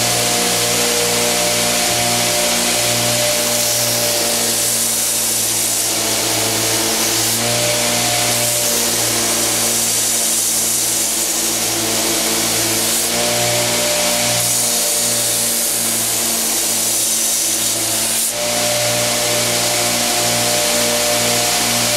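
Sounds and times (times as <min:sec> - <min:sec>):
abrasive belt grinding hiss: 0:00.0 - 0:21.9
belt grinder motor humming: 0:00.0 - 0:21.9.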